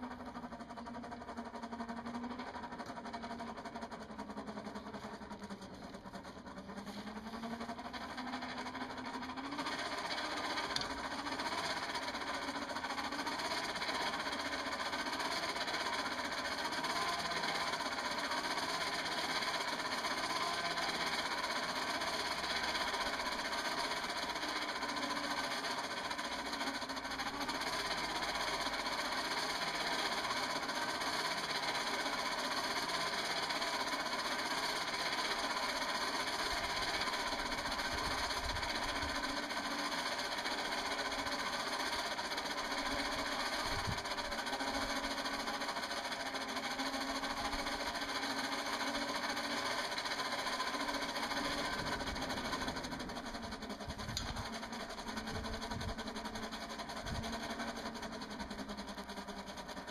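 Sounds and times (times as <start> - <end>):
forge blower running: 0.0 - 59.9.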